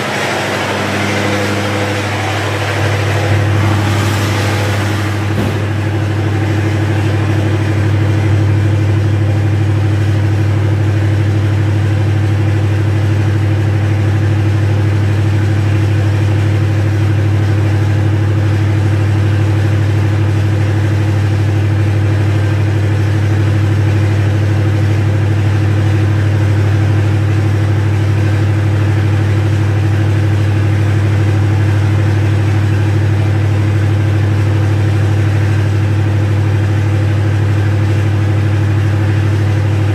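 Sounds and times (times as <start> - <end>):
diesel generator drone: 0.0 - 39.9.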